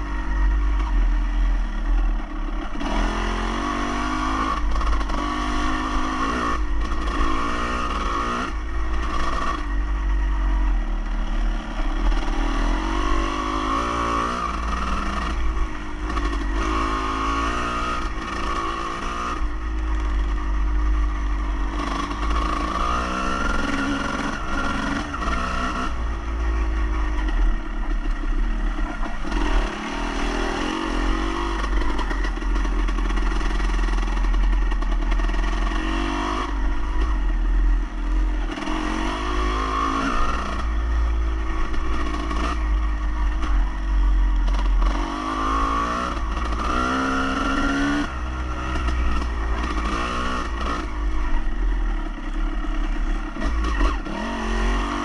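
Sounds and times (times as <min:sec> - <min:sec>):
engine revving: 0:00.0 - 0:55.0.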